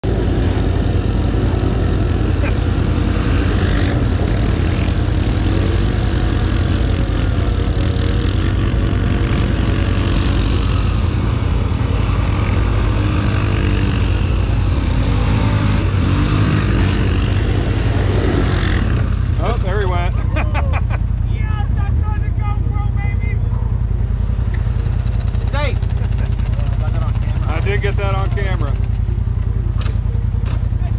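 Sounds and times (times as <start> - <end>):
quad bike engines revving: 0.0 - 30.9.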